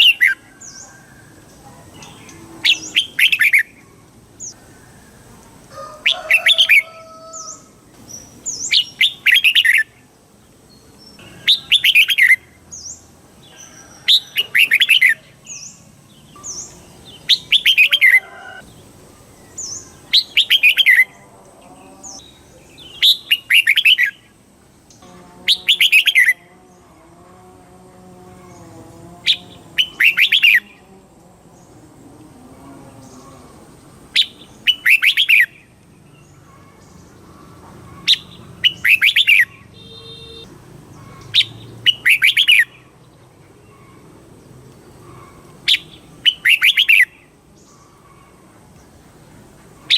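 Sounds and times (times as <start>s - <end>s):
bird singing warbling phrases: 0.0s - 0.9s, 1.6s - 4.6s, 6.0s - 26.9s, 28.3s - 30.9s, 32.9s - 44.1s, 45.2s - 49.9s.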